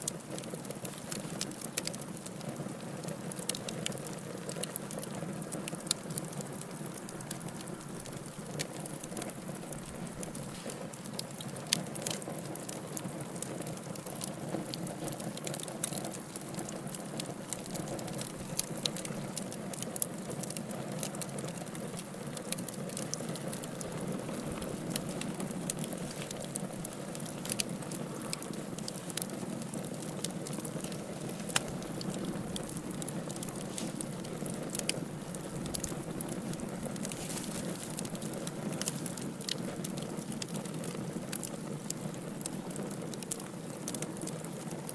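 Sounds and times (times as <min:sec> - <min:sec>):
wood fire crackling and popping: 0:00.0 - 0:44.9
fire hissing: 0:00.1 - 0:44.8.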